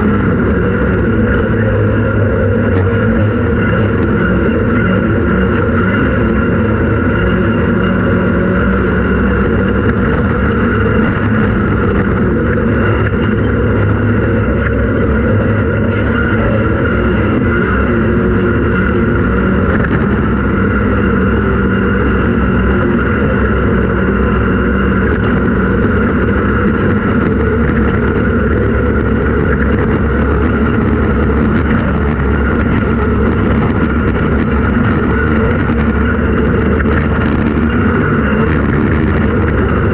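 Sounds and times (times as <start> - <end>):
race vehicle engine droning: 0.0 - 39.9.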